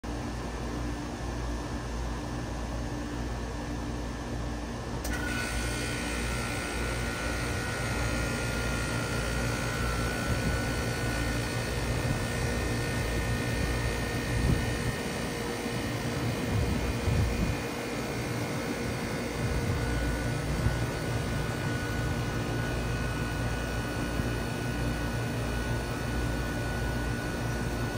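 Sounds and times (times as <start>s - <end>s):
heat pump fan air rush: 0.0s - 27.9s.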